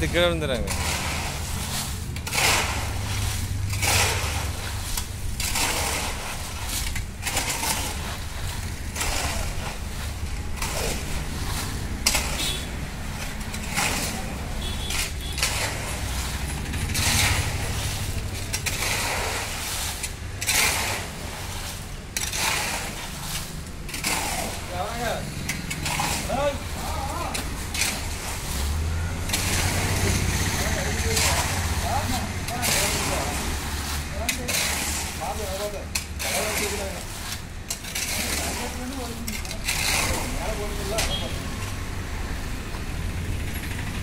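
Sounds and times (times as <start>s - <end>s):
churning load scraping: 0.0s - 44.0s
concrete mixer engine hum: 0.0s - 44.0s.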